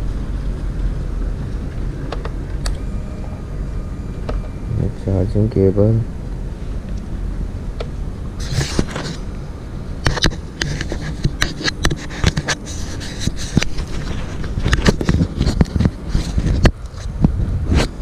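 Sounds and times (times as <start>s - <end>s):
scooter low rumble: 0.0s - 18.0s.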